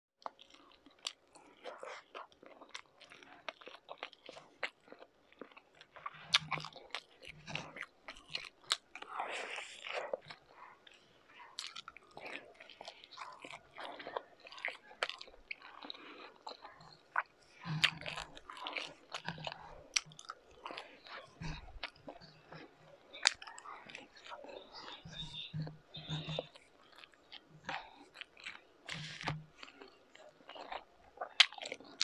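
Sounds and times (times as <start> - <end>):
mouth clicks and smacks: 0.2 - 32.0
person chewing: 0.2 - 32.0.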